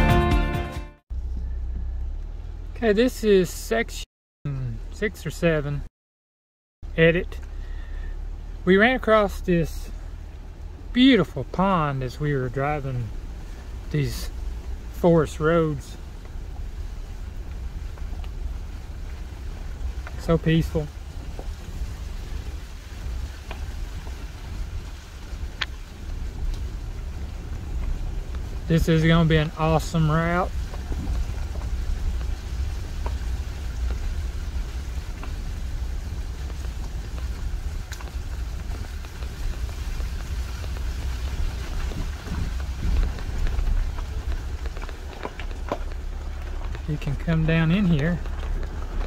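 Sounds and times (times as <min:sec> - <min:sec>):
engine and tyres rumbling: 0:01.0 - 0:05.9, 0:06.8 - 0:49.0
rain patter: 0:06.8 - 0:49.0.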